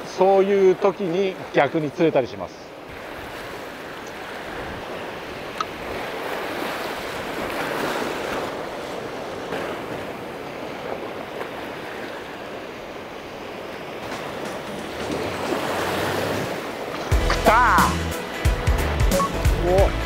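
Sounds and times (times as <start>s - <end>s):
surf washing up a beach: 0.0s - 18.6s.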